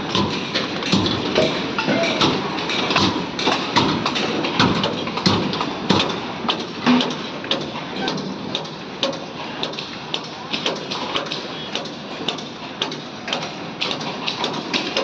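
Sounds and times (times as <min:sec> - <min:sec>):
construction site din: 0:00.0 - 0:15.0.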